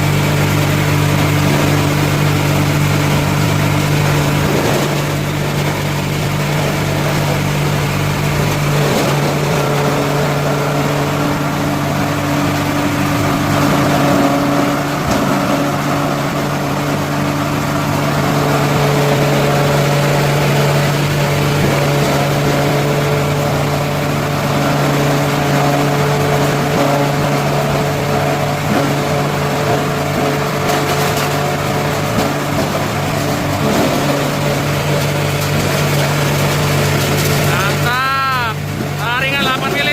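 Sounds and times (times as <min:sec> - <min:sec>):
grinder humming and churning: 0:00.0 - 0:39.9.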